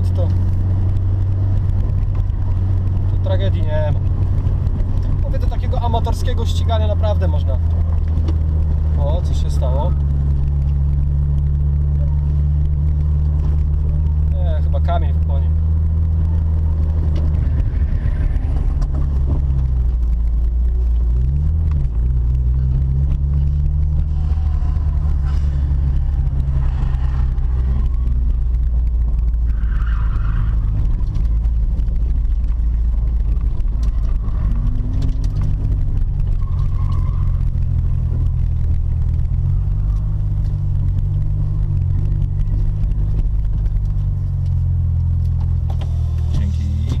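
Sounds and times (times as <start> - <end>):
car engine running at low revs: 0.0 - 47.0.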